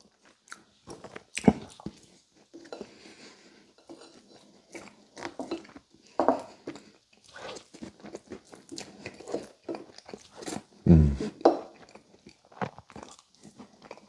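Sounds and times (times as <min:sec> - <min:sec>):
close chewing and mouth sounds: 0:00.0 - 0:14.0.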